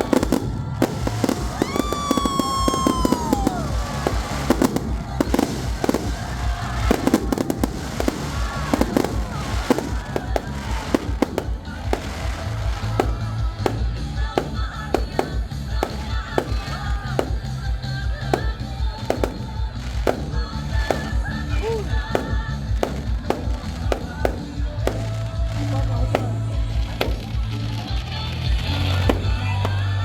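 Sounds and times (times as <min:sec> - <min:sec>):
fireworks bangs and crackling: 0:00.0 - 0:30.0
loud music with heavy bass: 0:00.0 - 0:30.0.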